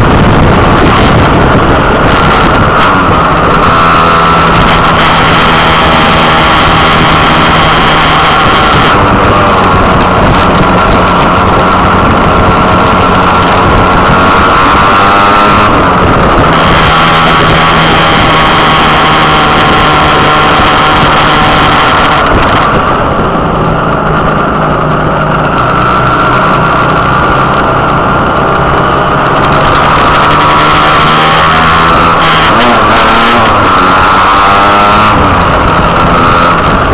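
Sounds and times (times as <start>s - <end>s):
motorcycle engine revving: 0.0s - 36.9s
wind rush on microphone: 0.0s - 36.9s.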